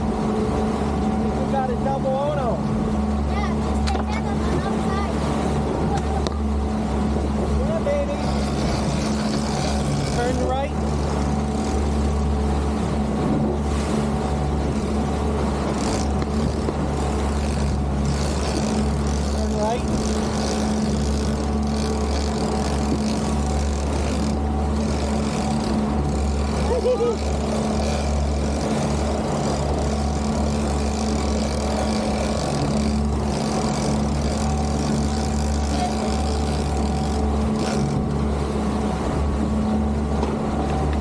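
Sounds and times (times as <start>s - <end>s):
boat engine humming: 0.0s - 41.0s.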